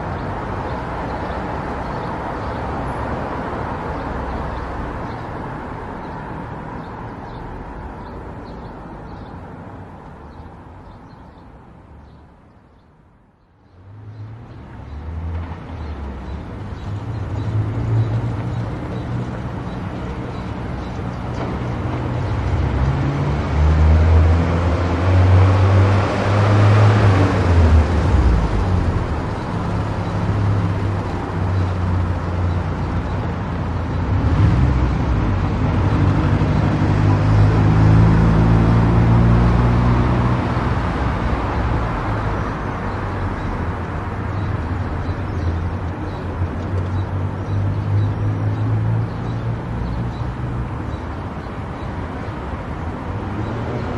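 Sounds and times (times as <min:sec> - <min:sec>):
tyre and road noise: 0:00.0 - 0:53.9.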